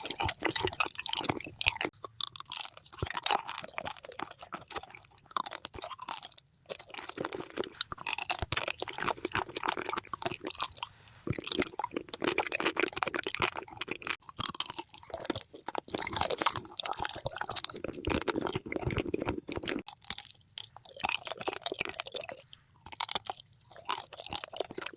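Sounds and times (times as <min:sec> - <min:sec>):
person crunching and chewing food: 0:00.0 - 0:24.9.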